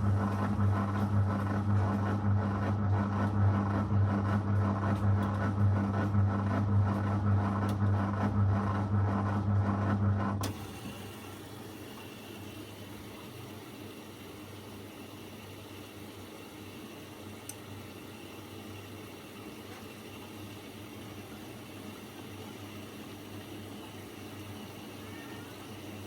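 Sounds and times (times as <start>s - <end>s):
drain pump humming: 0.0s - 26.0s.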